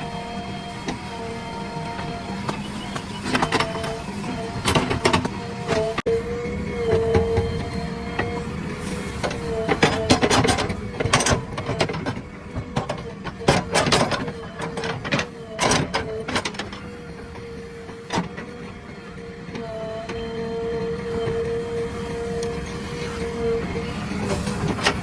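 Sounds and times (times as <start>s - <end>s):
earthmoving machine engine whine: 0.0s - 25.0s.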